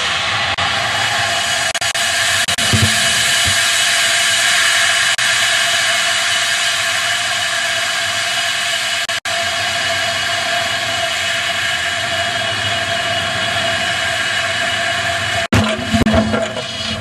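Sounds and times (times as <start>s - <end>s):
loud rushing hiss: 0.0s - 16.0s.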